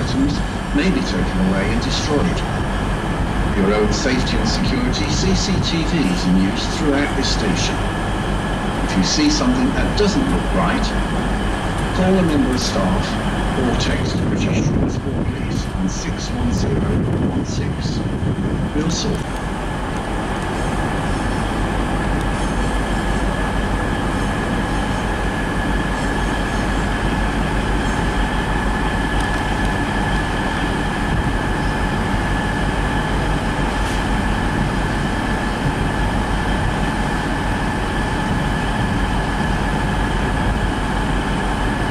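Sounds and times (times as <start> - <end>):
electric train rumble: 0.0 - 41.9
high whine of train: 0.0 - 41.9.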